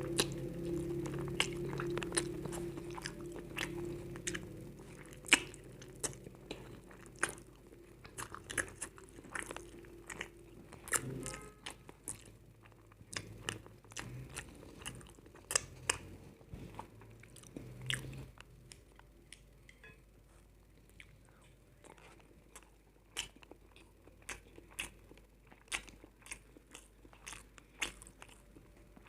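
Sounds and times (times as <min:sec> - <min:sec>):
chewing and crunching: 0:00.0 - 0:29.0.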